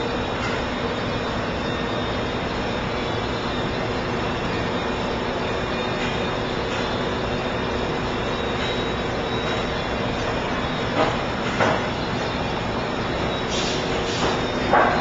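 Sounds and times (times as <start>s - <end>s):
machinery running hum: 0.0s - 15.0s.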